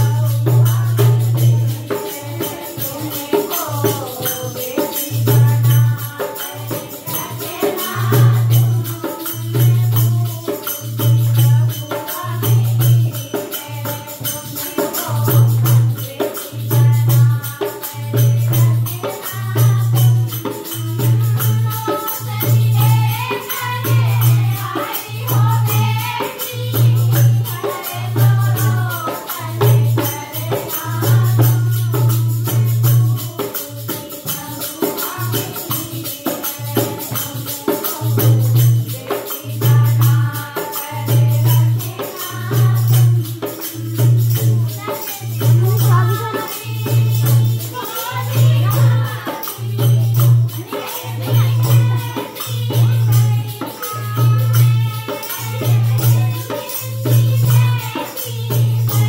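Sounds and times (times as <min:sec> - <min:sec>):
dholak drum beat: 0:00.0 - 0:59.0
jangling tambourine: 0:00.0 - 0:59.0
women singing together: 0:00.0 - 0:59.0.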